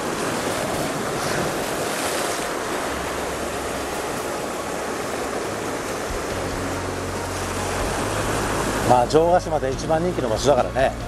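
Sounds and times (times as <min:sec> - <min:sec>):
waves breaking against rocks: 0:00.0 - 0:11.0.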